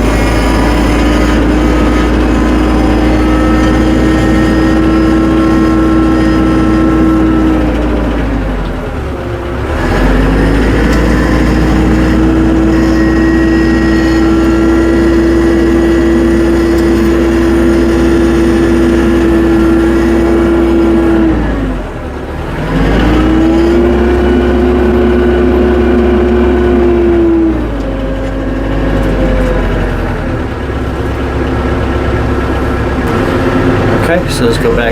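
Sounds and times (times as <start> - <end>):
tractor engine running at high revs: 0.0 - 34.9.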